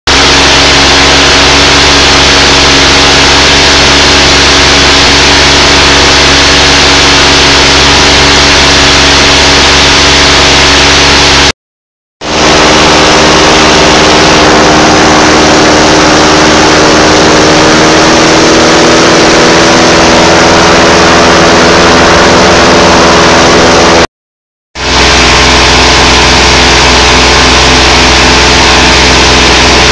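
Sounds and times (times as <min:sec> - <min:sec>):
paramotor engine and propeller running: 0:00.0 - 0:11.5, 0:12.2 - 0:24.1, 0:24.8 - 0:29.9.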